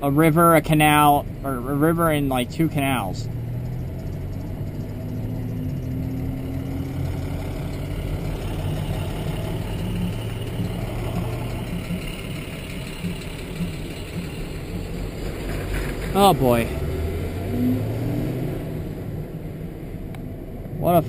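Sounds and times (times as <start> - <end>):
truck engine idling: 0.0 - 18.0
road noise: 0.0 - 21.0.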